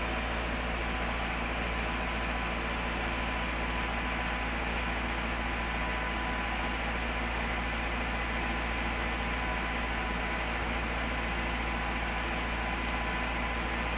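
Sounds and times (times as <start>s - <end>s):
engine idling: 0.0s - 13.9s.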